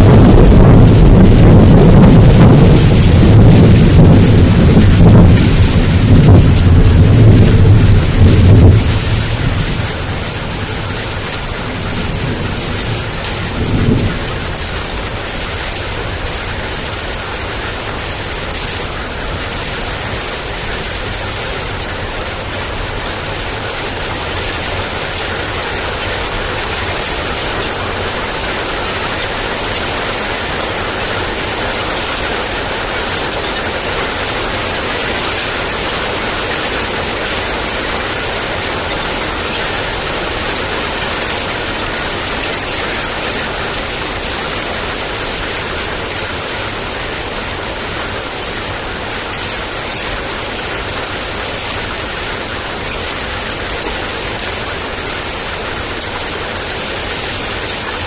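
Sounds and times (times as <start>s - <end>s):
heavy rain pouring: 0.0s - 58.0s
thunder rolling: 0.0s - 58.0s.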